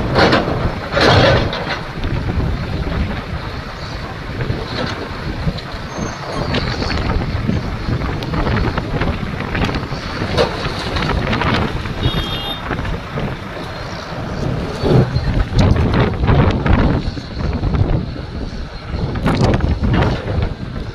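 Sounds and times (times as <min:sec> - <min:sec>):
excavator diesel engine rumble: 0:00.0 - 0:20.9.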